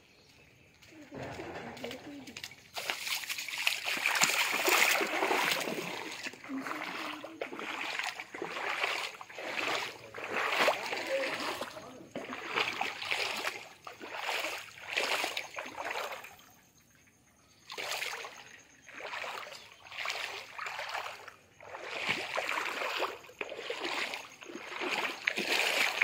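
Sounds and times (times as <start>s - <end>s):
footsteps wading through water: 0.1s - 16.7s, 17.6s - 26.0s.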